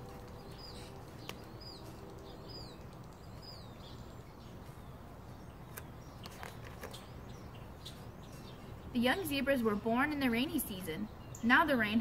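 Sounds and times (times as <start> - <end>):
small bird chirping: 0.0 - 11.5.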